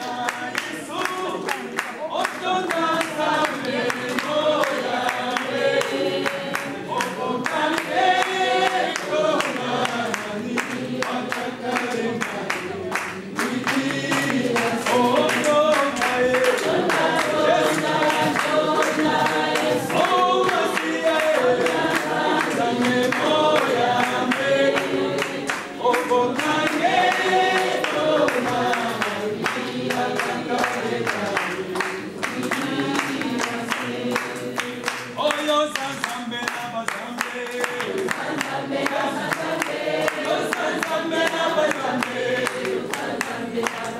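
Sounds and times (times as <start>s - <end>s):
group singing unaccompanied: 0.0s - 43.9s
hand claps: 0.0s - 43.9s.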